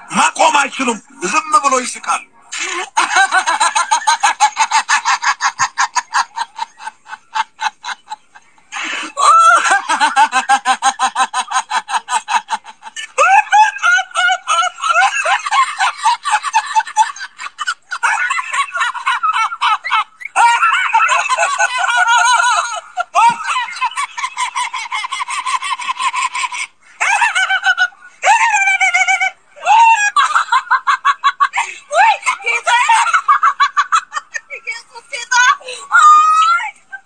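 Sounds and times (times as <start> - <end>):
man laughing uncontrollably: 2.6 - 36.6.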